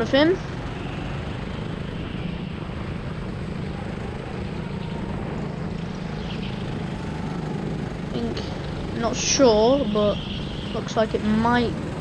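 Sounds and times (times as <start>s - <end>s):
go-kart engine droning: 0.0s - 12.0s.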